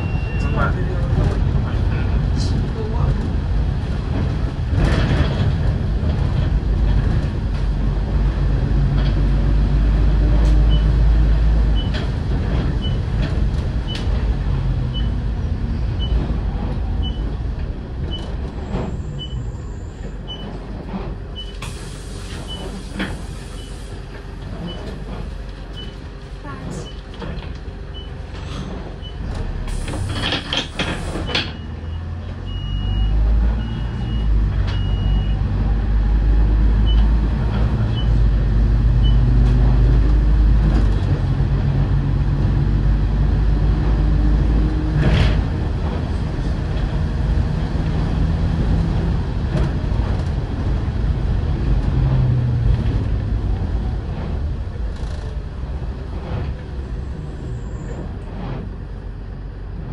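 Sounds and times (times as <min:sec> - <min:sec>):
bus diesel engine accelerating: 0:00.0 - 0:59.9.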